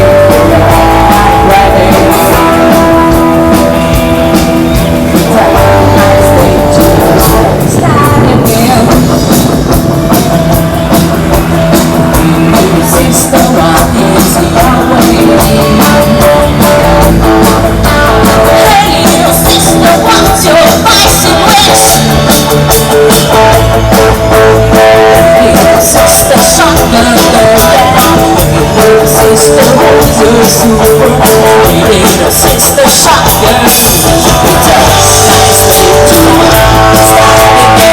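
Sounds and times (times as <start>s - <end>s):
person singing: 0.0s - 9.9s, 11.4s - 37.9s
rock band playing: 0.0s - 37.9s.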